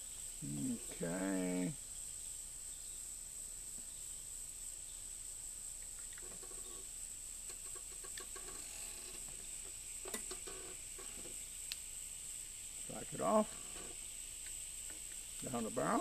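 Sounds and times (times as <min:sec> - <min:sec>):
high-pitched insect drone: 0:00.0 - 0:03.0, 0:06.0 - 0:16.0.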